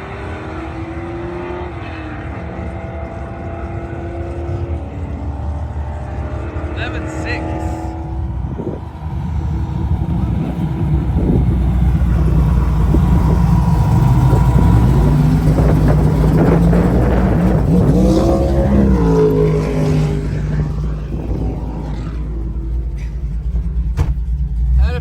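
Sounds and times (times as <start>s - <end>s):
drag car engine at full throttle: 0.0s - 25.0s.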